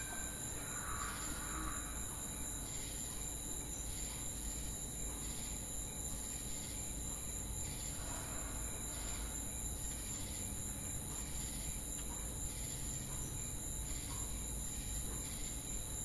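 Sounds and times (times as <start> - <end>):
crickets chirring: 0.0 - 16.0
low pulsing cricket chirps: 0.0 - 16.0.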